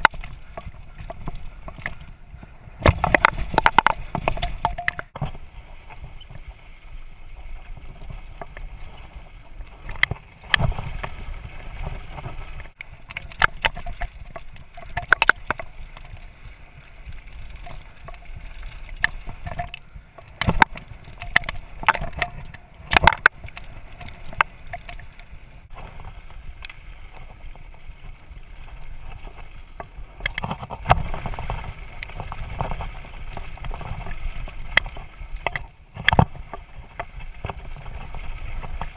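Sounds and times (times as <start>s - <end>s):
mountain bike rattling: 0.0s - 38.9s.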